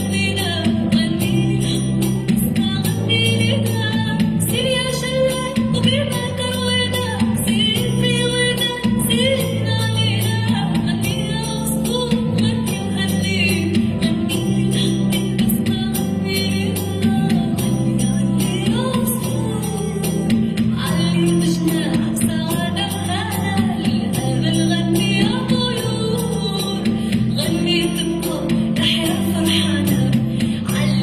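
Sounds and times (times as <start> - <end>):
sustained bass notes: 0.0 - 31.0.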